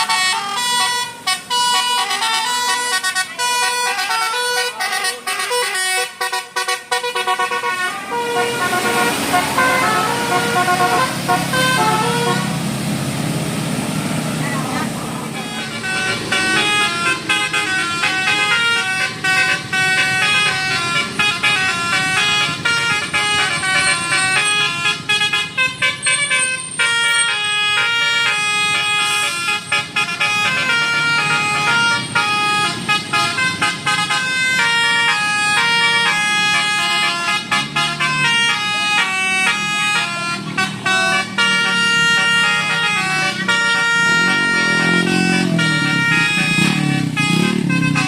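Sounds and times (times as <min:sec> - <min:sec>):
multi-tone bus horn tune: 0:00.0 - 0:13.4, 0:14.0 - 0:48.0.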